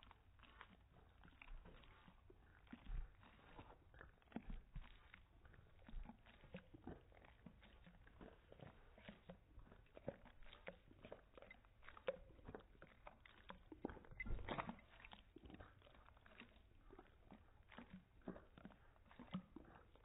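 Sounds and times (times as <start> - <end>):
dog lapping from a ceramic plate: 0.0 - 20.0.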